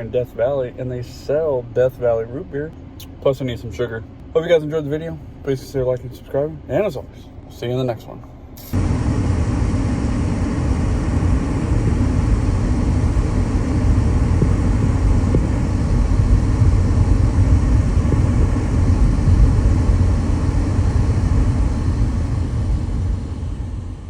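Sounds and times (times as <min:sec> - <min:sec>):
vehicle driving low rumble: 0:00.0 - 0:24.0.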